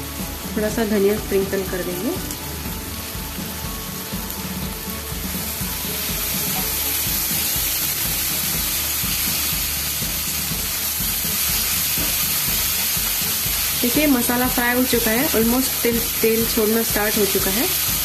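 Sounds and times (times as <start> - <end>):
masala sizzling in oil: 0.0 - 18.0.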